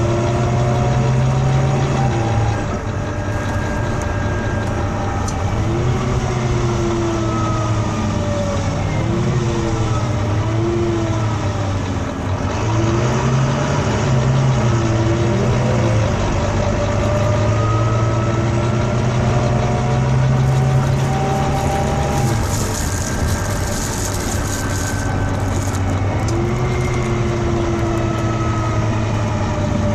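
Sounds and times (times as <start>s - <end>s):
wavering wailing tones: 0.0s - 11.6s, 14.4s - 29.9s
bus engine low drone: 0.0s - 29.9s.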